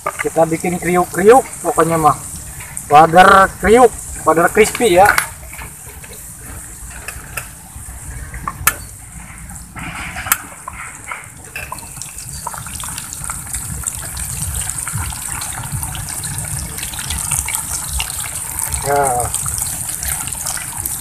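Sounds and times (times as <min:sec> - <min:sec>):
fish deep-frying in hot oil: 0:00.0 - 0:21.0
oil popping: 0:00.0 - 0:21.0.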